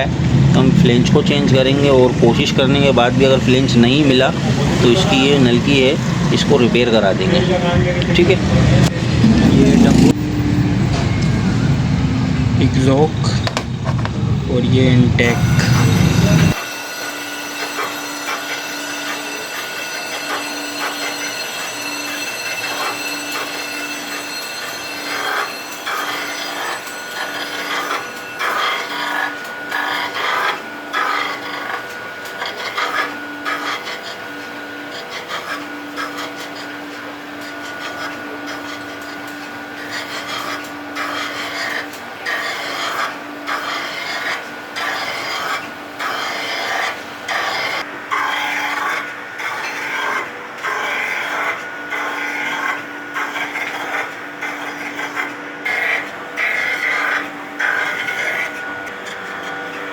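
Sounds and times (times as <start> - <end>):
hand tool rasping metal: 0.8 - 9.0, 15.2 - 59.9.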